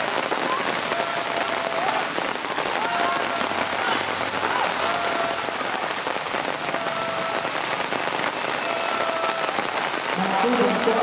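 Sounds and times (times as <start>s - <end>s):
heavy rain on water: 0.0s - 11.0s.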